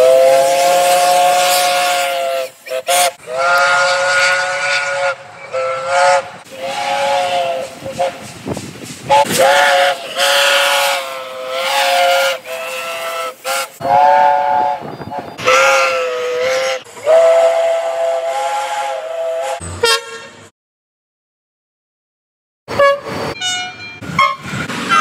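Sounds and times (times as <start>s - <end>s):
train horn blasts: 0.0s - 8.2s, 9.1s - 20.5s, 22.7s - 25.0s.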